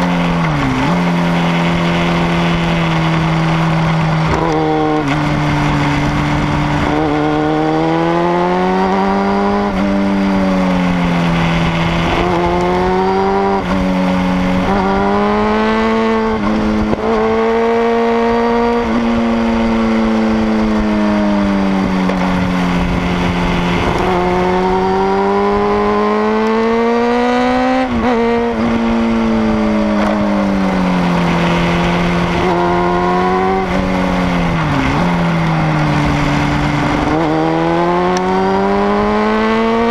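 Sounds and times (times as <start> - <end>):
motorcycle engine pulling hard: 0.0 - 39.9
wind rumble on microphone: 0.0 - 39.9.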